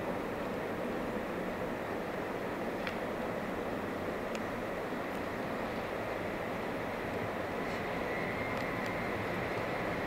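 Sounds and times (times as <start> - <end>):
electric locomotive running: 0.0 - 10.0
train wheels on rails: 0.0 - 10.0.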